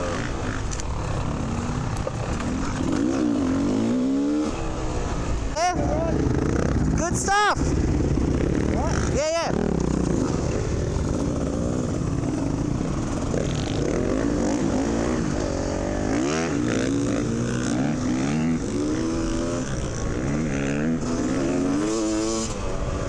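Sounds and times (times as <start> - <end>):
dirt bike engine revving: 0.0 - 23.0
steady rushing noise: 0.0 - 23.0.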